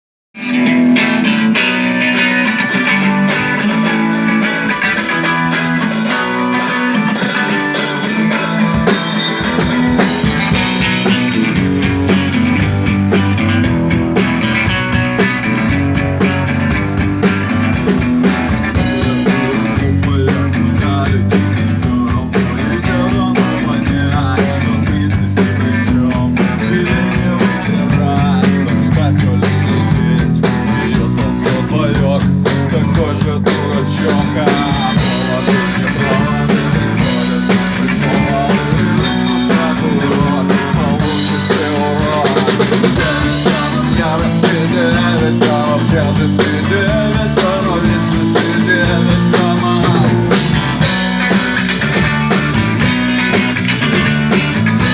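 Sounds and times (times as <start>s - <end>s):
rock band playing live: 0.4s - 54.9s.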